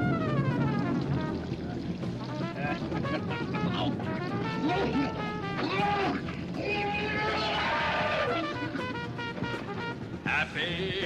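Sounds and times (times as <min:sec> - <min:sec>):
spooky music from cassette tape: 0:00.0 - 0:11.0.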